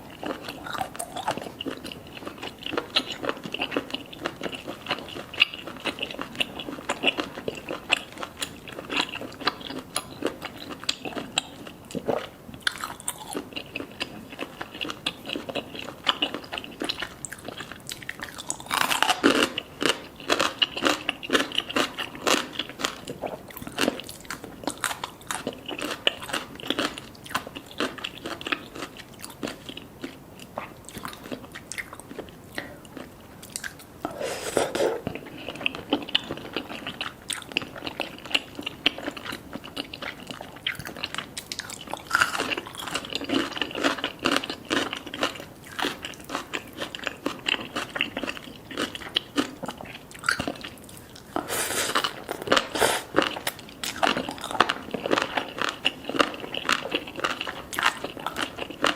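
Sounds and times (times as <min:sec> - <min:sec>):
person chewing crunchy food: 0:00.0 - 0:58.9.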